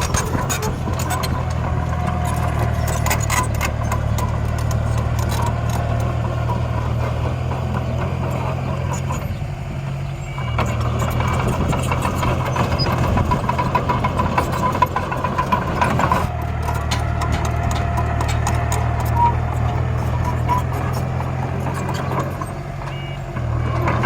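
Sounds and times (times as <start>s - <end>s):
miniature vehicles engine drone: 0.0s - 24.0s.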